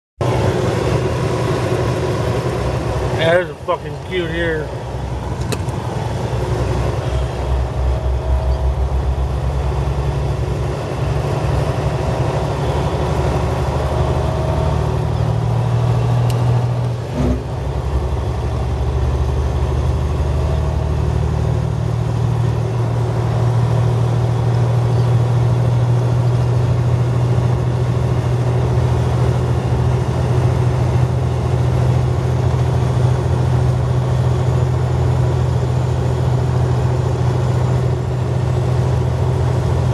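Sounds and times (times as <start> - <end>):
vehicle engine humming: 0.2 - 39.9.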